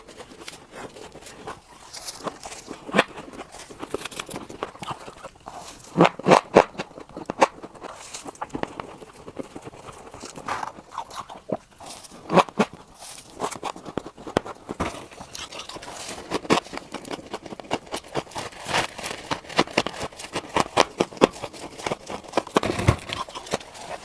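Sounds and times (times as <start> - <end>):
ice crunching between teeth: 0.0 - 24.0.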